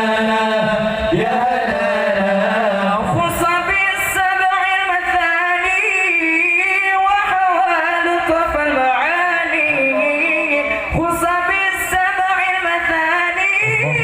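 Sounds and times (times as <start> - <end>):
men singing devotional song: 0.0 - 14.0.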